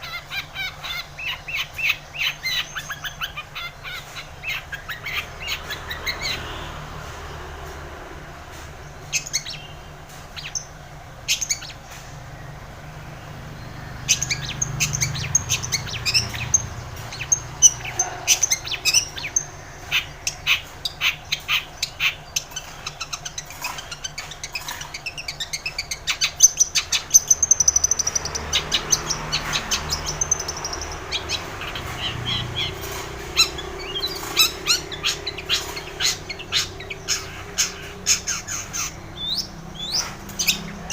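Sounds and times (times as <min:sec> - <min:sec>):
bird chattering song: 0:00.0 - 0:07.8, 0:08.7 - 0:40.9.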